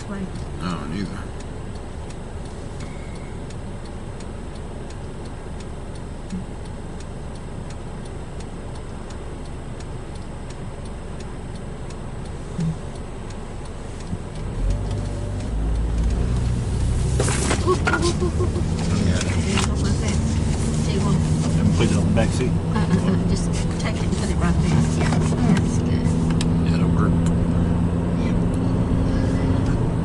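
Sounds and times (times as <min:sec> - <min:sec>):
car rumble inside cabin: 0:00.0 - 0:30.0
turn signal ticking: 0:00.0 - 0:30.0.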